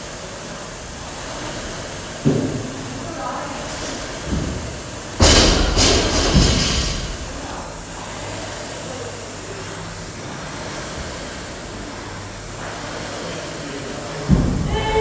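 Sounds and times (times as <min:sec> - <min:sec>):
rowing machine fan whooshing: 0:00.0 - 0:15.0.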